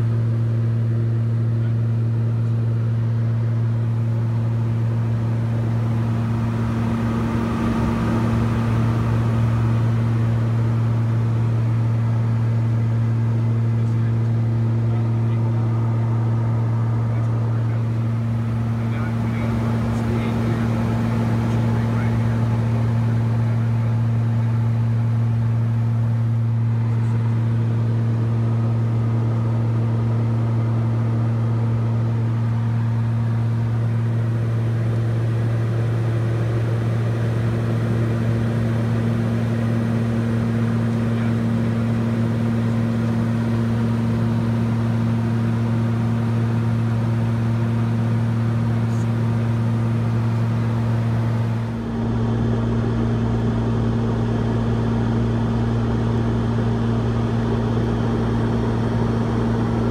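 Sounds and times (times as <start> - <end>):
turboprop cockpit drone: 0.0 - 59.9.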